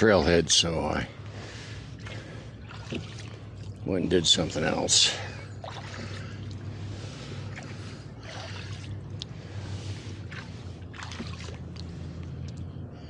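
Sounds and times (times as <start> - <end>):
oars swishing water: 0.0 - 13.0
steady low hum: 0.0 - 13.0.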